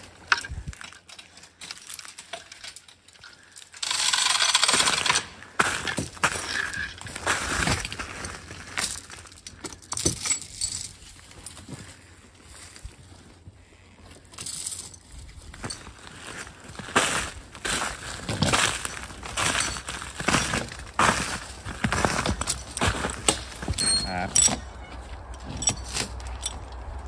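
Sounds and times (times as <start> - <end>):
harness chains jingling: 0.3 - 5.2, 5.9 - 11.8, 14.2 - 16.0, 17.6 - 27.0
scuffing and crunching movement: 5.3 - 27.0.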